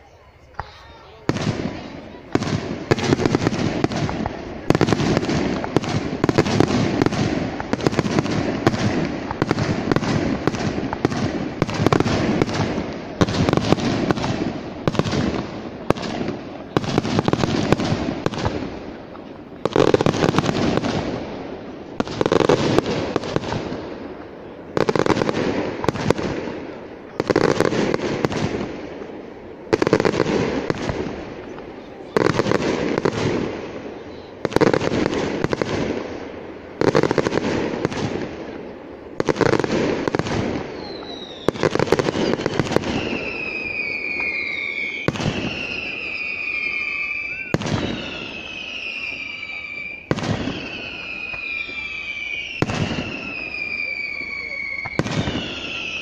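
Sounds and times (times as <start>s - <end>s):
firework crackles: 0.0s - 56.0s.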